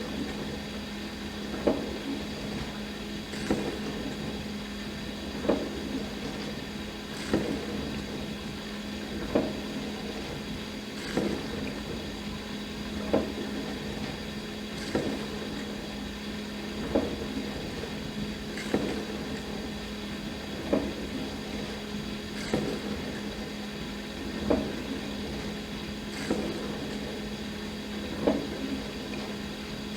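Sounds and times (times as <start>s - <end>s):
dishwasher motor hum: 0.0s - 29.9s.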